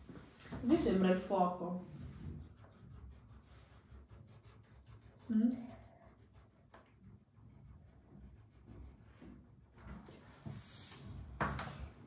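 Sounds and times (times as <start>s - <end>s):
marker scratching on paper: 1.8s - 11.8s.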